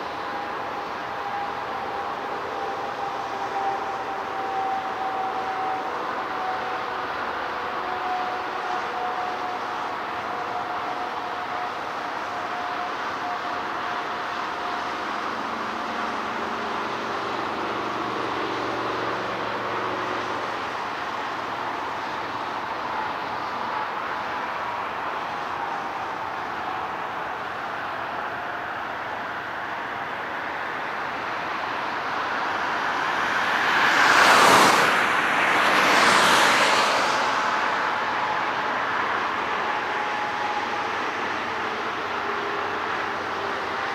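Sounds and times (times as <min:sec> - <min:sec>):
faint jet whine: 0:00.0 - 0:43.9
jet engines roaring: 0:00.0 - 0:43.9.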